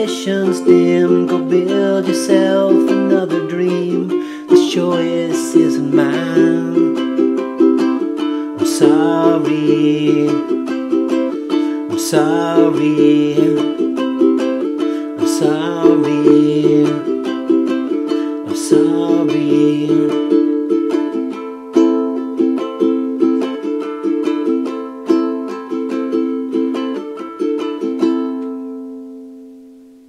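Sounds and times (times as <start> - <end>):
ukulele strumming: 0.0 - 30.0.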